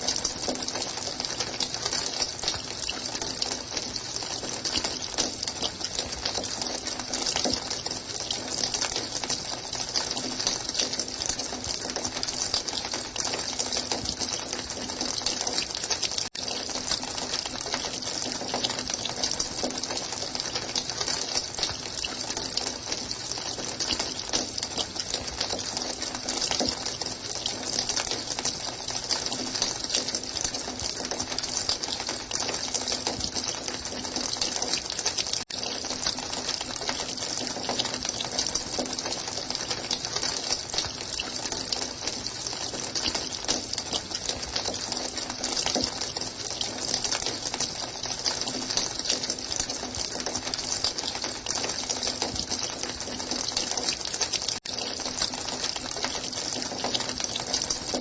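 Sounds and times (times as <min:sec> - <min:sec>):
running water gushing: 0:00.0 - 0:58.0.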